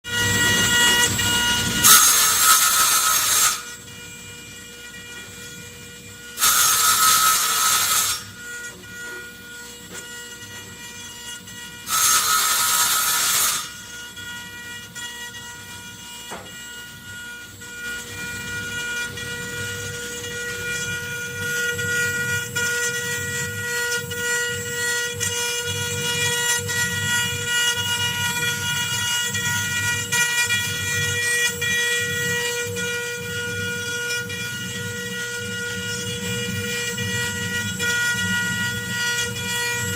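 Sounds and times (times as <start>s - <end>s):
cnc router whine: 0.0s - 39.9s.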